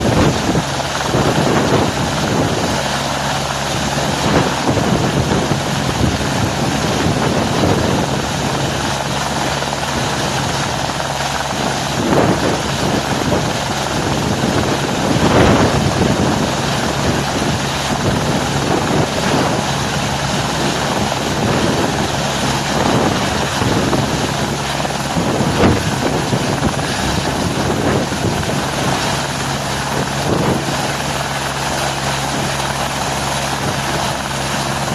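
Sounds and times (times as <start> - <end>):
helicopter rotor and engine: 0.0 - 34.9.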